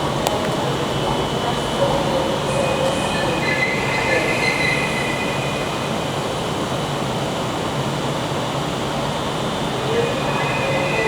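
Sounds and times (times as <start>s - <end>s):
train rumbling over rails: 0.0s - 11.0s
train wheels squealing: 1.0s - 7.4s, 8.4s - 11.0s.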